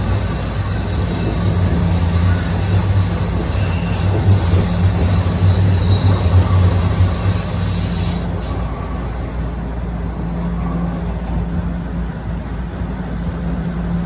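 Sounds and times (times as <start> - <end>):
subway car hum and rumble: 0.0 - 14.0.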